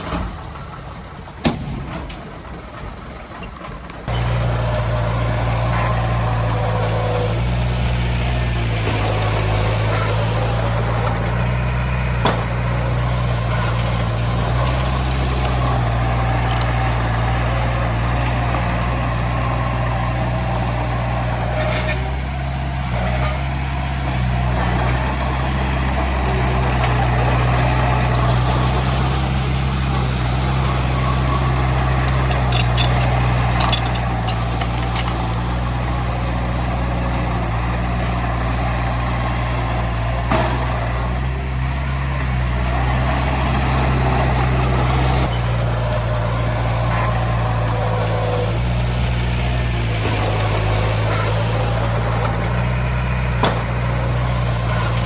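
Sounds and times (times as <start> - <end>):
diesel machinery engine running: 3.8 - 55.0
metallic clanks and knocks: 4.1 - 37.6, 43.5 - 55.0.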